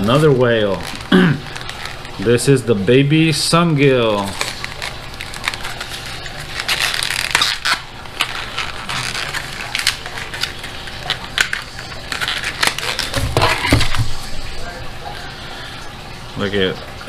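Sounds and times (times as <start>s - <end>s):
plastic blister pack crackling: 0.0s - 16.0s.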